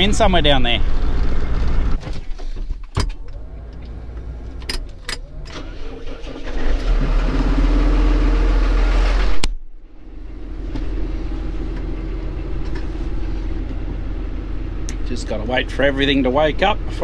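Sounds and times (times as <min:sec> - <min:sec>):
diesel engine starting and idling: 0:00.0 - 0:17.0.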